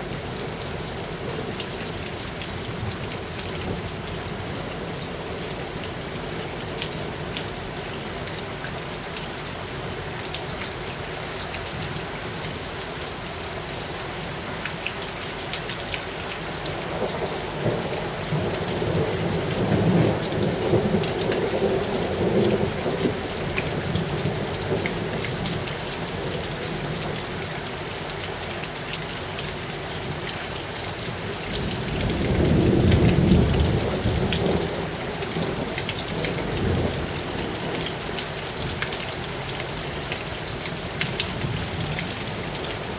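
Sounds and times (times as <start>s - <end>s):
heavy rain: 0.0s - 42.9s.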